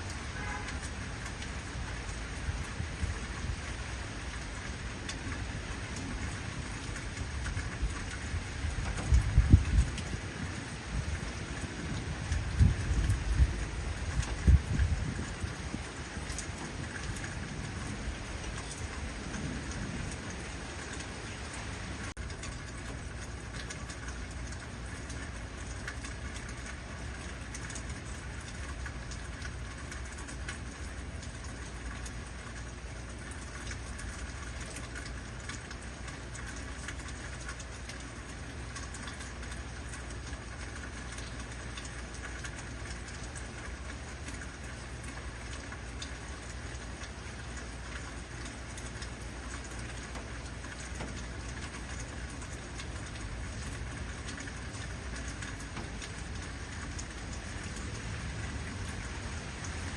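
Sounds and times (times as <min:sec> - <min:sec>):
heavy rain hiss: 0:00.0 - 0:33.2, 0:34.2 - 0:59.9.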